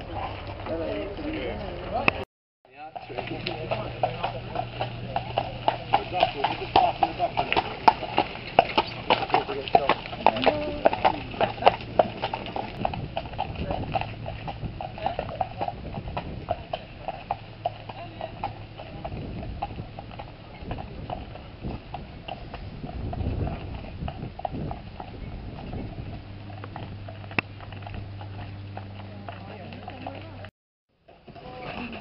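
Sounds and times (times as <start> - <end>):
hooves clip-clopping on gravel: 0.0 - 2.2, 2.8 - 30.5, 31.1 - 32.0.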